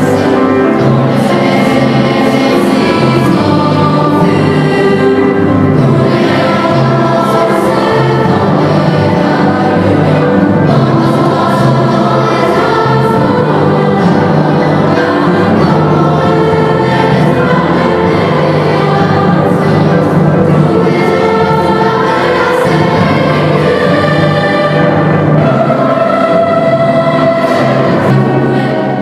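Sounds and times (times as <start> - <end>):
mixed choir singing: 0.0 - 29.0
orchestra accompanying: 0.0 - 29.0.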